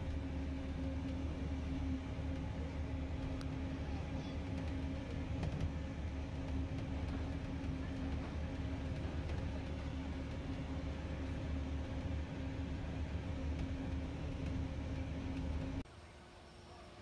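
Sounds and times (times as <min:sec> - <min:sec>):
monorail running rumble and hum: 0:00.0 - 0:17.0.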